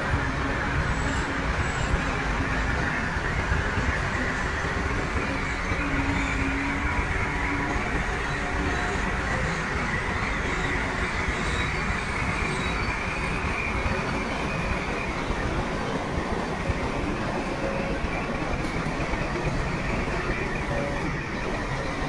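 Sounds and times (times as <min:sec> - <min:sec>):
steel tracks clanking and squealing: 0:00.0 - 0:22.0.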